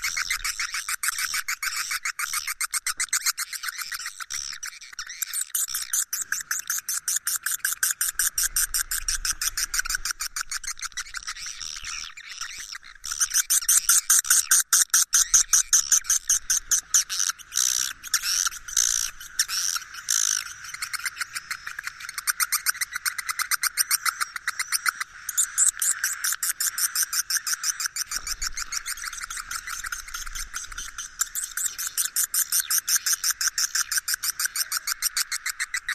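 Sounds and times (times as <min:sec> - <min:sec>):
rapid twittering bird calls: 0:00.0 - 0:35.9.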